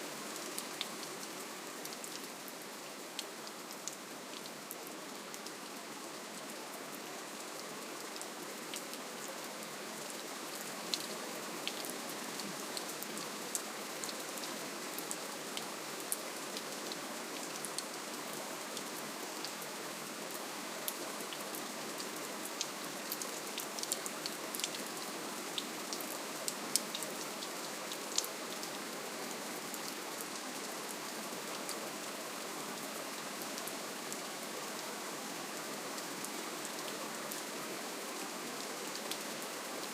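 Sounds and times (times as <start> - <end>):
gentle rainfall: 0.0 - 39.9.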